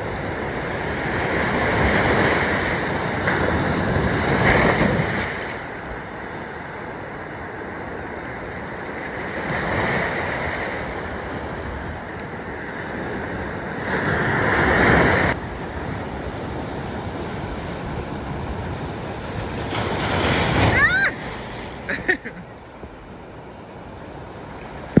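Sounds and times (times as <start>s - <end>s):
ocean surf washing on beach: 0.0s - 25.0s.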